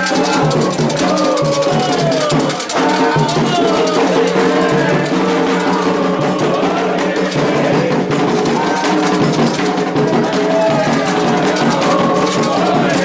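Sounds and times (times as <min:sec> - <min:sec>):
drums beating: 0:00.0 - 0:13.0
rattles shaking: 0:00.0 - 0:13.0
voices singing a chant: 0:00.0 - 0:13.0.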